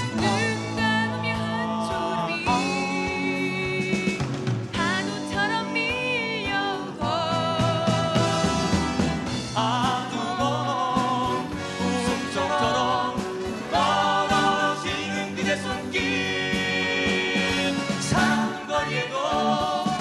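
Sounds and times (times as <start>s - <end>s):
female and male voices singing: 0.0s - 20.0s
instrumental accompaniment: 0.0s - 20.0s.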